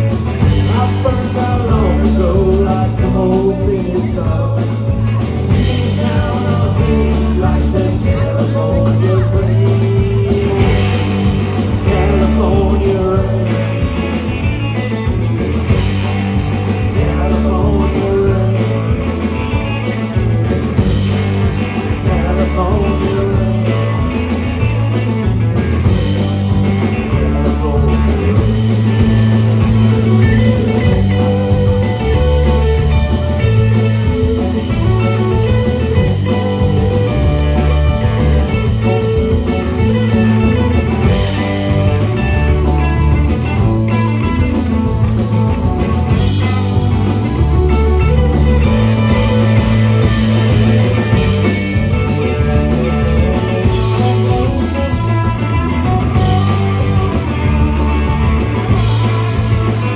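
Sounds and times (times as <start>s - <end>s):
bluesy guitar lead: 0.0s - 59.9s
rock band playing: 0.0s - 59.9s.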